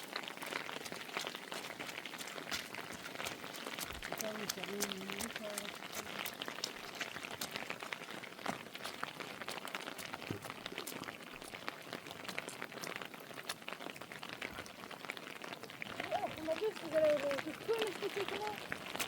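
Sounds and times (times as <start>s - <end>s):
heavy rain falling: 0.0s - 19.0s
raindrop hits: 0.0s - 19.0s.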